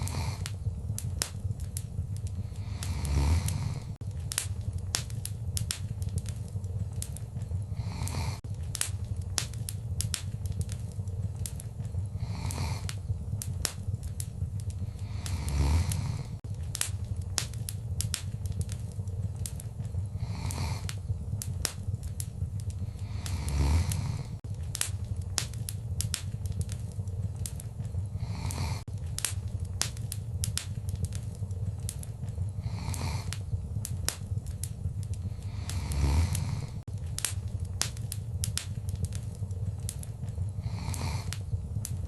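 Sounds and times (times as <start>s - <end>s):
sharp snaps and pops: 0.0s - 42.0s
wood fire crackling: 0.0s - 42.0s.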